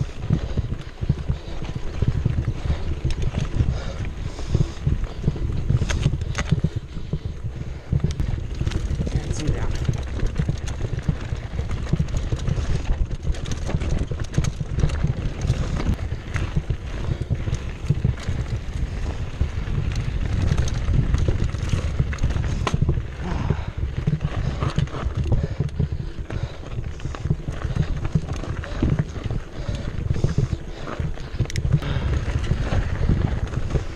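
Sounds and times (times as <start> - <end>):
bike clattering over bumps: 0.0 - 33.9
bike tyres rolling on dirt: 0.0 - 33.9
constant low rumble: 0.0 - 33.9.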